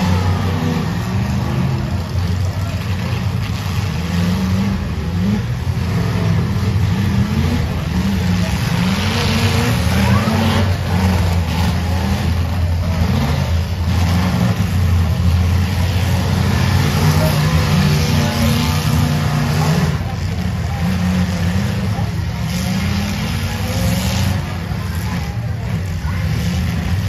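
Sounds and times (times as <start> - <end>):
car engines revving: 0.0 - 27.0
crowd noise: 0.0 - 27.0.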